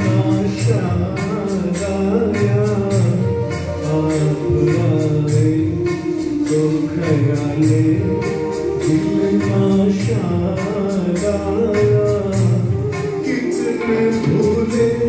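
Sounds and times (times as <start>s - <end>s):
man singing into a microphone: 0.0s - 15.0s
melodic accompaniment: 0.0s - 15.0s
steady percussion beat: 0.0s - 15.0s.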